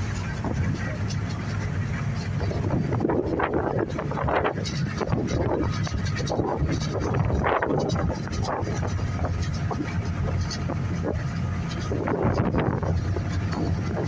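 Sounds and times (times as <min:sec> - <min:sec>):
ferry engines running: 0:00.0 - 0:14.0
wind gusting on microphone: 0:00.0 - 0:14.0.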